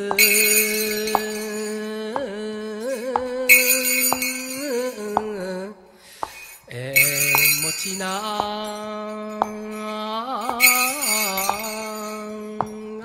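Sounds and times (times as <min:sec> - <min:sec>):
jingling: 0:00.0 - 0:13.0
solo folk singing: 0:00.0 - 0:13.0.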